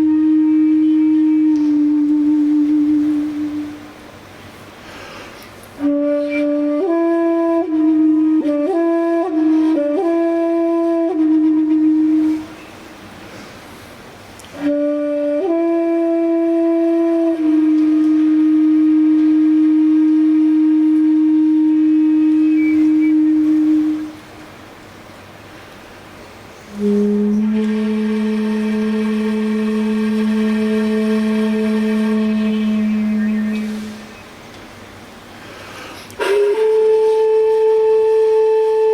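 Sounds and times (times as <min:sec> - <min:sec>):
flute melody: 0:00.0 - 0:04.0, 0:05.8 - 0:12.8, 0:14.6 - 0:24.2, 0:26.7 - 0:34.3, 0:36.2 - 0:38.9.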